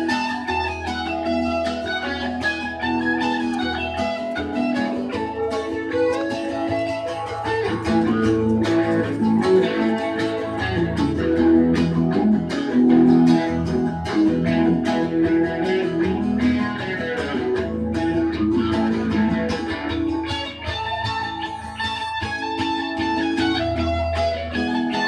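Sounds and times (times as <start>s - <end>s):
lead guitar playing: 0.0s - 25.0s
bass line: 1.1s - 24.7s.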